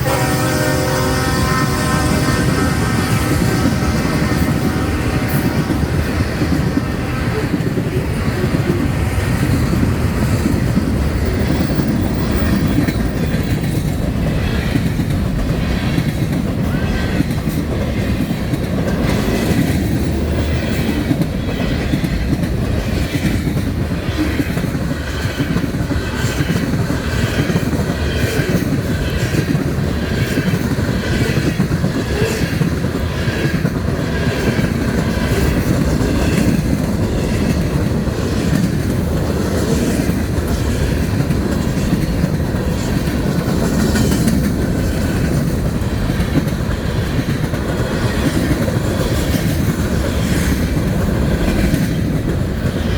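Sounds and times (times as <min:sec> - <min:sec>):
freight train rolling past: 0:00.0 - 0:52.9
wheels clickety-clack: 0:01.8 - 0:52.9.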